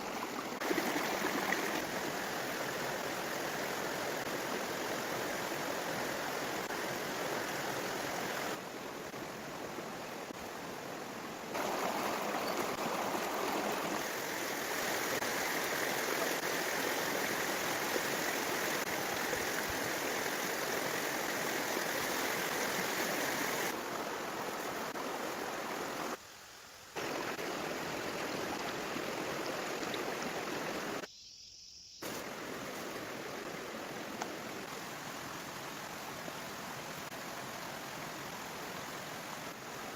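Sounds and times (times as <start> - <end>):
running water rushing: 0.0 - 31.1, 32.0 - 39.9.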